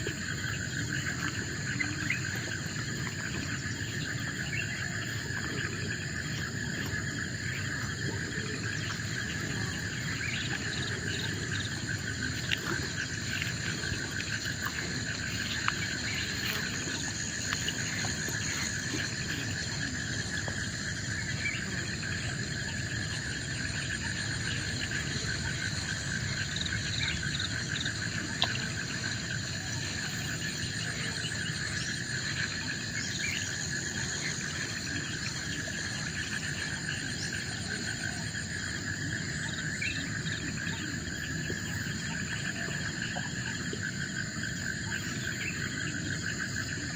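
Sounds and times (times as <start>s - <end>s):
faint insect clicks and chirps: 0.0s - 46.9s
insects droning: 0.0s - 46.9s.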